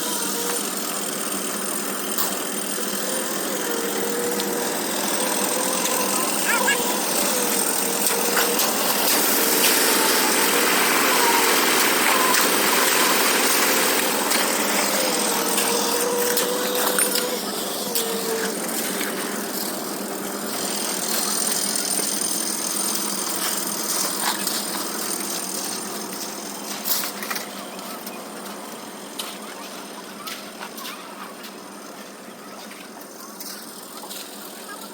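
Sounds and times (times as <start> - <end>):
construction machinery engine running: 0.0 - 34.9.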